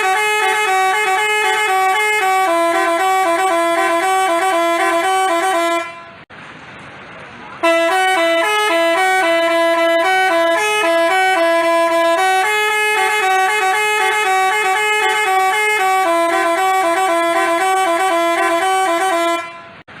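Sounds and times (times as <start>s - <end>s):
musical horn playing a tune: 0.0s - 6.2s, 7.6s - 19.8s.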